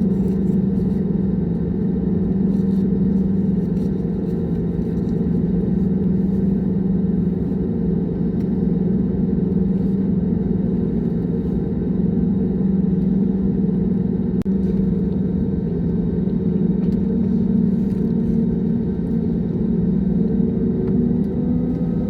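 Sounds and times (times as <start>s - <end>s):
jet airliner cabin drone: 0.0s - 22.0s.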